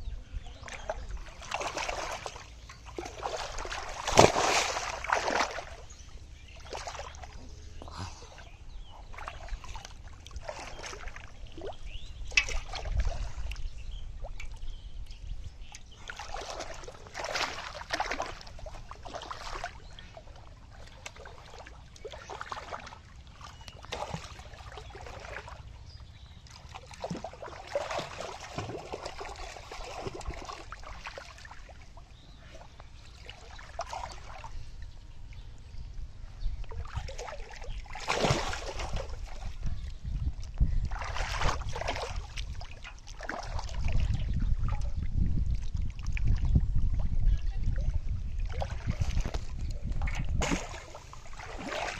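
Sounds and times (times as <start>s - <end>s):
muddy water splashing: 0.0s - 51.9s.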